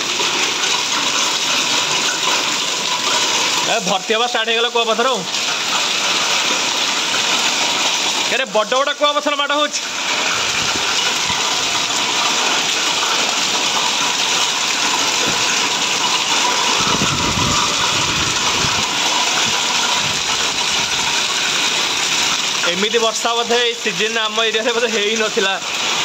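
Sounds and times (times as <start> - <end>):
heavy rain and hail: 0.0 - 26.0.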